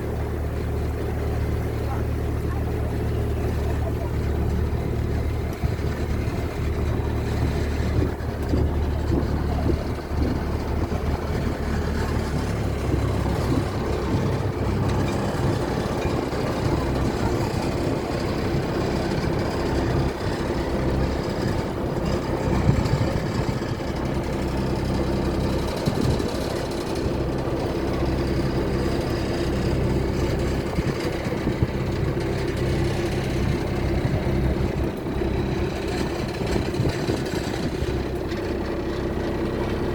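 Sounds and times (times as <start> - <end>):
boat diesel engine droning: 0.0 - 39.9.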